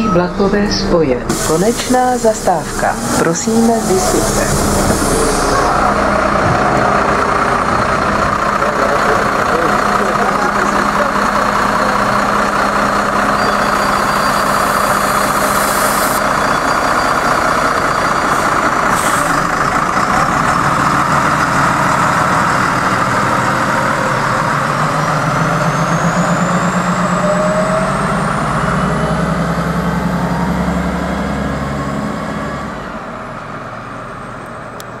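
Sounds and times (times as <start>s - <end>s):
bus diesel engine: 0.0s - 35.0s.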